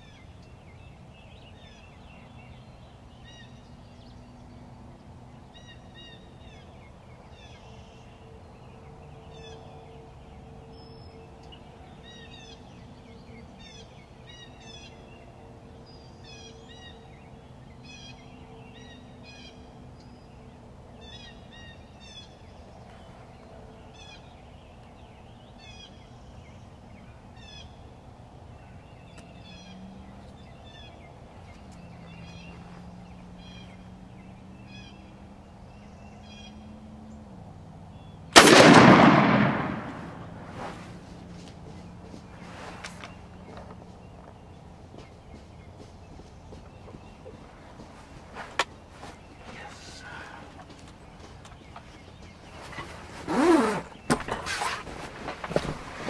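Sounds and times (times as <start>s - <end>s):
songbirds chirping: 0.0s - 56.0s
steady low hum: 0.0s - 56.0s.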